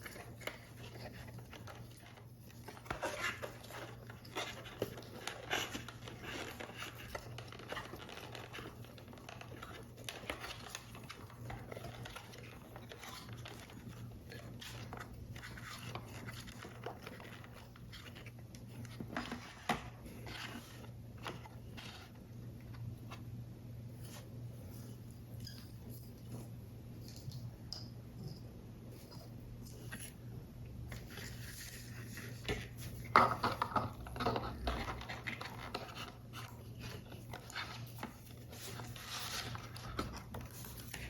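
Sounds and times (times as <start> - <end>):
paper rustling and scraping: 0.0 - 23.3, 30.9 - 41.0.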